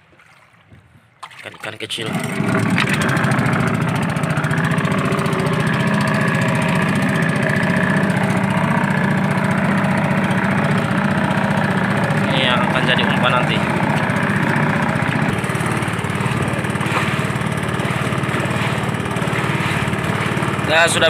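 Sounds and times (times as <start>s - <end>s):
boat motor running: 2.0s - 21.0s.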